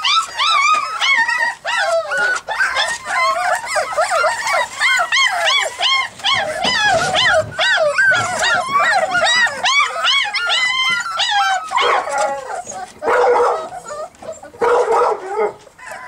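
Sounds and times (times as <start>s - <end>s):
puppies whining and yelping: 0.0s - 16.0s.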